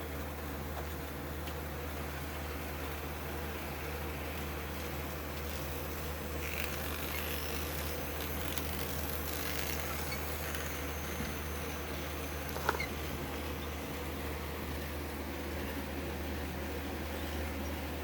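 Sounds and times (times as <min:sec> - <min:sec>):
model train electric motor humming: 0:01.9 - 0:18.0.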